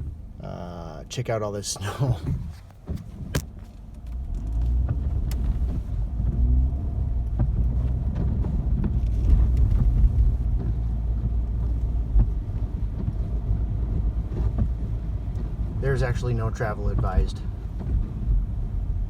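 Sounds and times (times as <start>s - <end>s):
car driving on snow: 0.0s - 19.0s.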